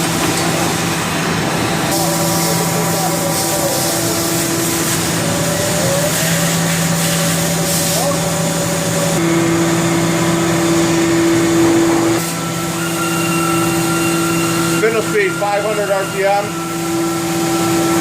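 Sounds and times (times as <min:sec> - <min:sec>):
machine hum over hiss: 0:00.0 - 0:18.0.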